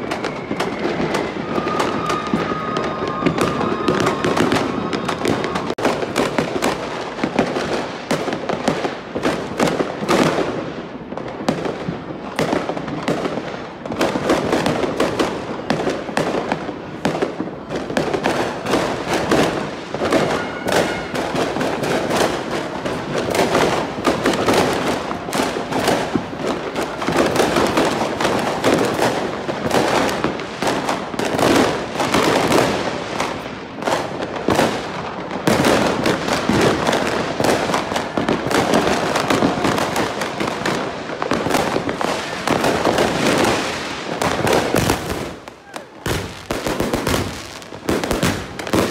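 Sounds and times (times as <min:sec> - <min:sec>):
fireworks crackling and banging: 0:00.0 - 0:48.9.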